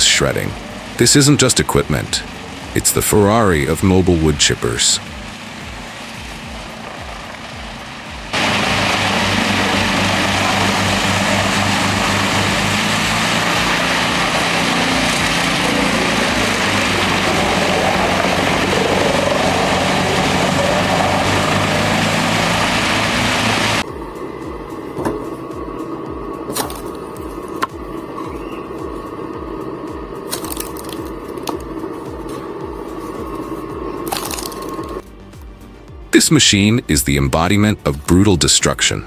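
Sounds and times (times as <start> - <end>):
wood chipper running: 0.0 - 35.1.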